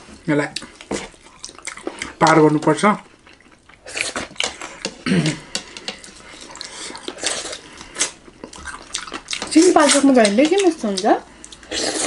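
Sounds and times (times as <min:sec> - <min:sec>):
wet chewing and mouth clicks: 0:00.5 - 0:12.0.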